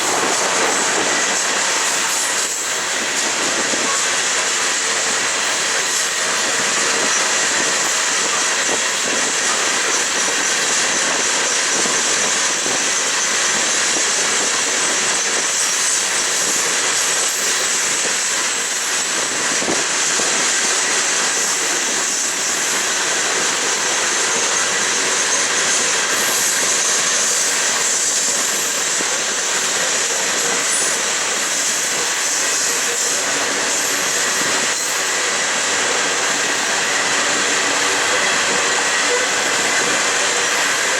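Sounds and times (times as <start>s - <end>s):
train cars rumbling on rails: 0.0s - 40.9s.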